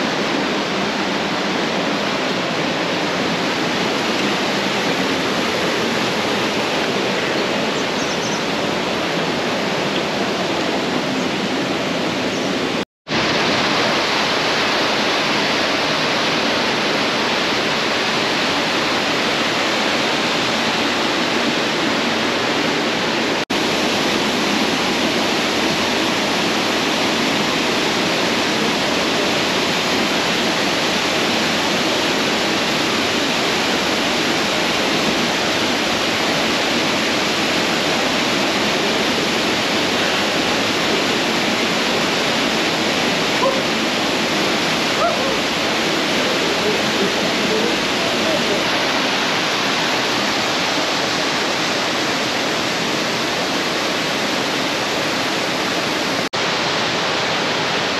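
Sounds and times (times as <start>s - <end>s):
waterfall rushing into pool: 0.0s - 57.9s.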